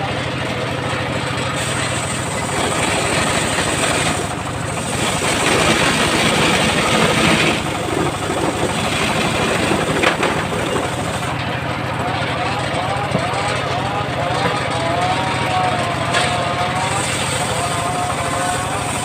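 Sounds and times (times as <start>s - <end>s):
sawmill engine running: 0.0s - 19.0s.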